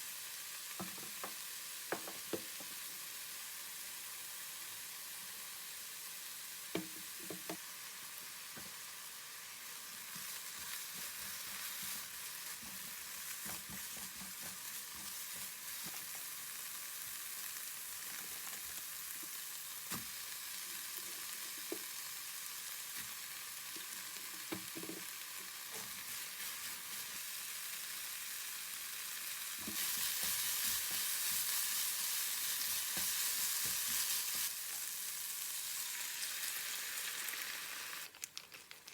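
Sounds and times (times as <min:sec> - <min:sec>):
food sizzling in a pan: 0:00.0 - 0:38.2.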